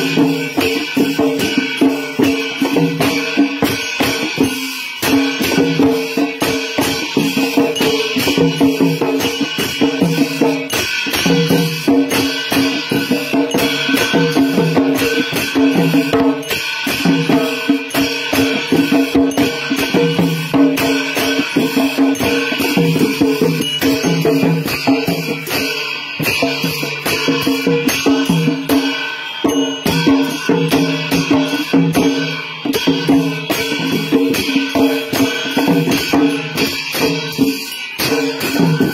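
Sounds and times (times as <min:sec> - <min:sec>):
clashing cymbals: 0:00.0 - 0:38.9
drums beaten in fast rhythm: 0:00.0 - 0:38.9.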